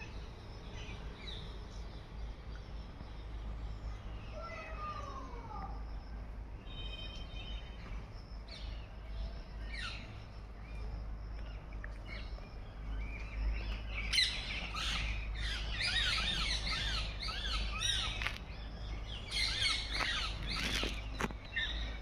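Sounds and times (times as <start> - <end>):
low steady rumble: 0.0 - 7.2, 8.0 - 22.0
small birds chirping: 0.0 - 22.0.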